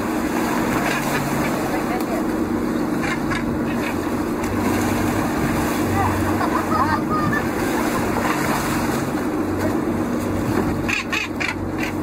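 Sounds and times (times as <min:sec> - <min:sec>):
boat engine running: 0:00.0 - 0:12.0
sea water rushing: 0:00.0 - 0:12.0
wind: 0:00.0 - 0:12.0.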